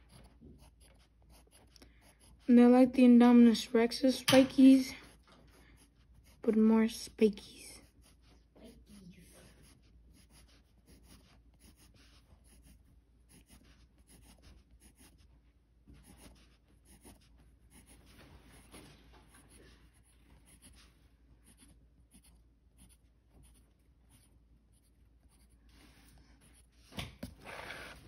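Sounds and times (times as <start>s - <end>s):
pencil scratching on paper: 0.0s - 28.0s.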